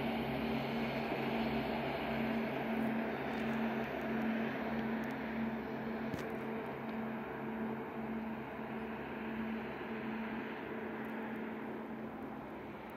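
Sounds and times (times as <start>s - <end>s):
distant diesel train engine: 0.0s - 12.9s.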